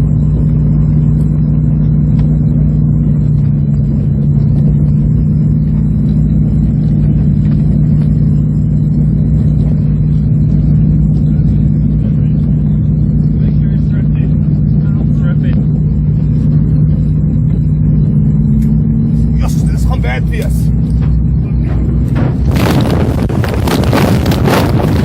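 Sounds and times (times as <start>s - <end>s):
loud engine drone: 0.0s - 25.0s.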